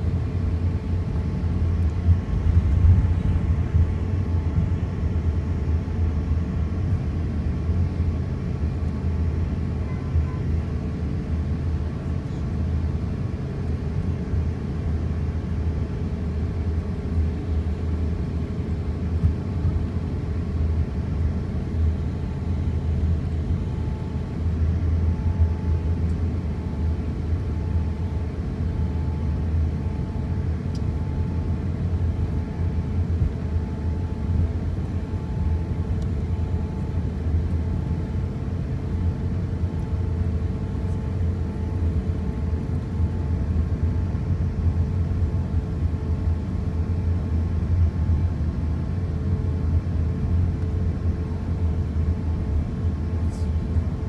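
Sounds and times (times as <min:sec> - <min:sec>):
faint steady hum: 0:00.0 - 0:54.0
low rumble of aircraft engines: 0:00.0 - 0:54.0.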